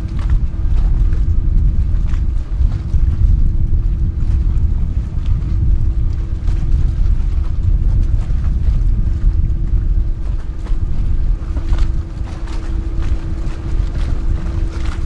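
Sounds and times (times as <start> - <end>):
steady hum: 0.0 - 15.0
water jets rumbling: 0.0 - 15.0
wind buffeting microphone: 0.0 - 15.0.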